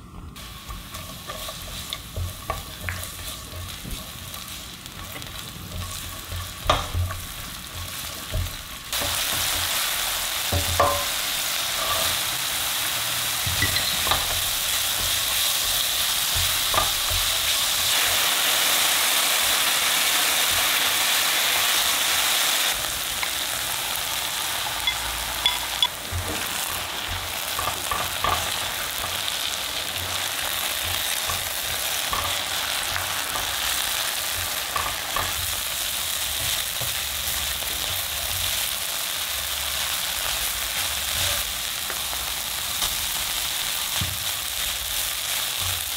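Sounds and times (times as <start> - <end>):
vegetables sizzling in oil: 0.3 - 45.9.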